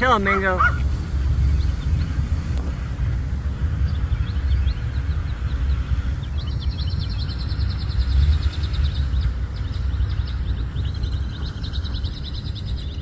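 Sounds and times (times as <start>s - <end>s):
songbird trilling: 0.0s - 2.2s, 3.6s - 13.0s
steady low rumble: 0.0s - 13.0s.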